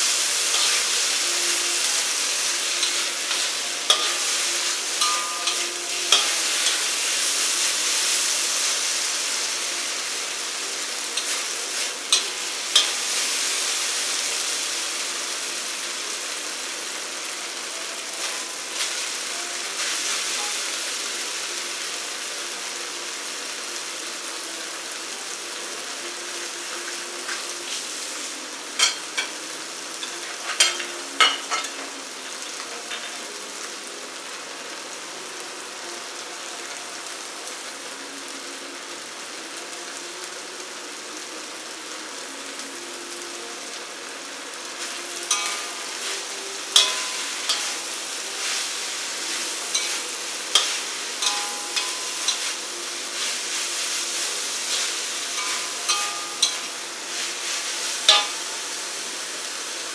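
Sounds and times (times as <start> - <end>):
noodles sizzling in a wok: 0.0 - 59.9.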